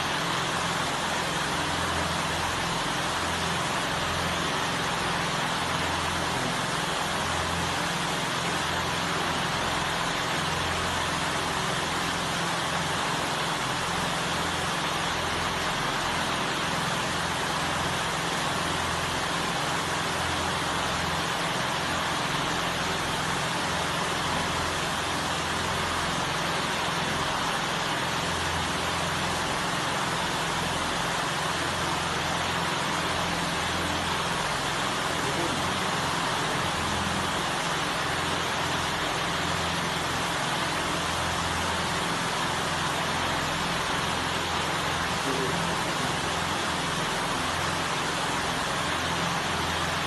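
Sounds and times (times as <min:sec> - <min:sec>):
steady background noise: 0:00.0 - 0:50.0.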